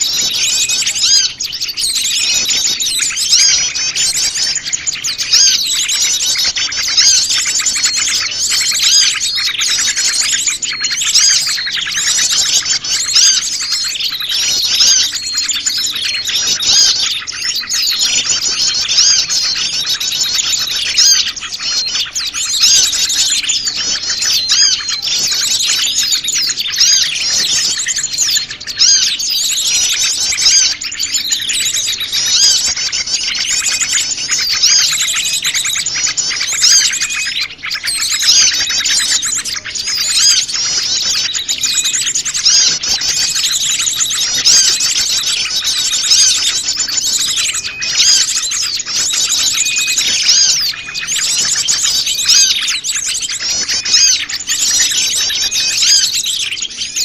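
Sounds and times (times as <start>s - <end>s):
chorus of songbirds chirping: 0.0s - 57.0s.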